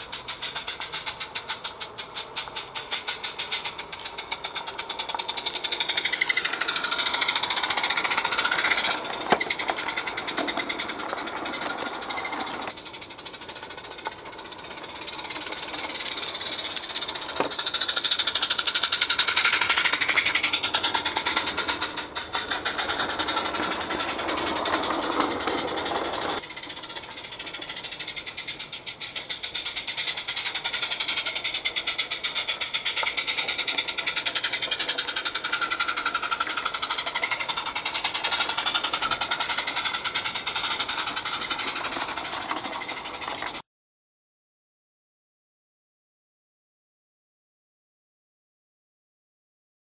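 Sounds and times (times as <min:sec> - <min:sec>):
steam locomotive exhaust beats: 0:00.0 - 0:43.6
train wheels on rail: 0:00.0 - 0:43.6.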